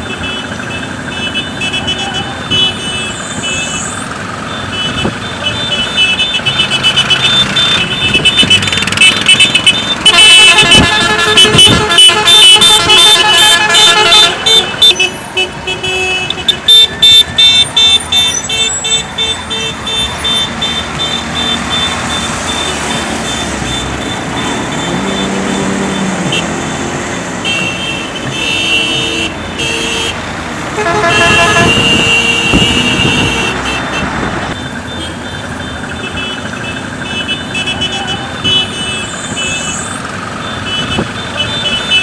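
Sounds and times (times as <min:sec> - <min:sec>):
car horns honking: 0:00.0 - 0:42.0
road traffic: 0:00.0 - 0:42.0.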